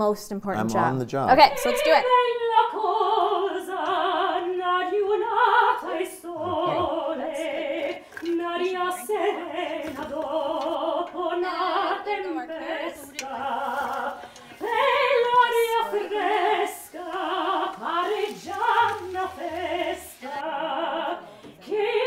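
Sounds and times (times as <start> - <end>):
woman singing opera: 1.3 - 22.0.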